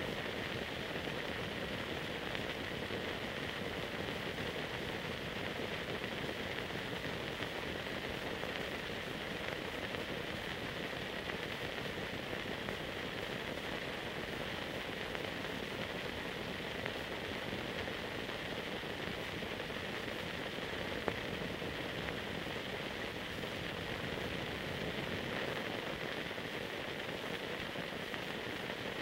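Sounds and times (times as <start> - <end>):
tape and film hiss: 0.0 - 29.0.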